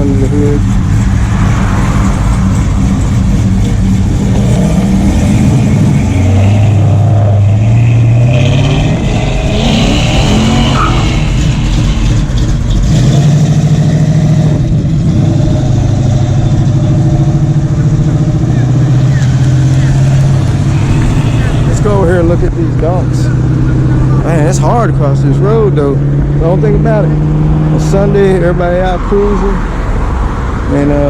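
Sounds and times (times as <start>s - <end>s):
car engine running loudly: 0.0s - 31.0s.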